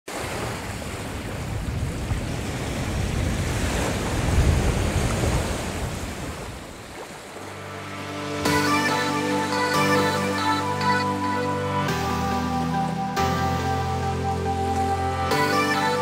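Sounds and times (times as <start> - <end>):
sea surf: 0.1 - 16.0
wind: 0.1 - 16.0.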